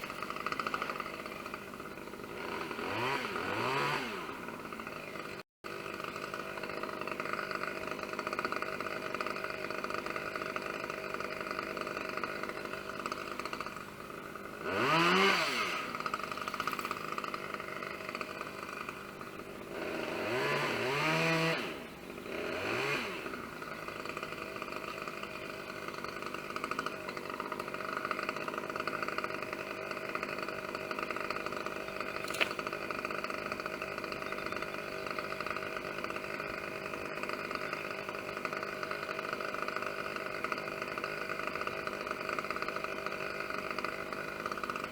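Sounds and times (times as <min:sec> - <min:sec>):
chainsaw idling and revving: 0:00.0 - 0:44.9.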